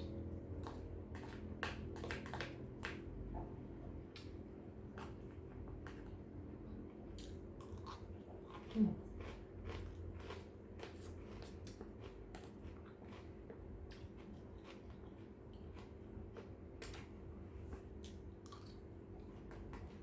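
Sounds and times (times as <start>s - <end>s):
chewing food: 0.5s - 20.0s.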